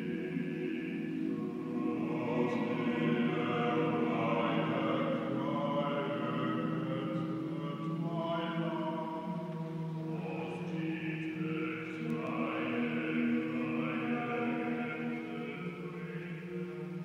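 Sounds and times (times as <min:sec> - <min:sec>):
choir singing a cappella: 0:00.0 - 0:17.0.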